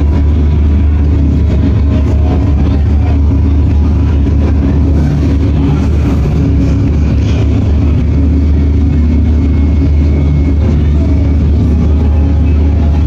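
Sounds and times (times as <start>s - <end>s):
low droning rumble from speakers: 0.0s - 13.0s.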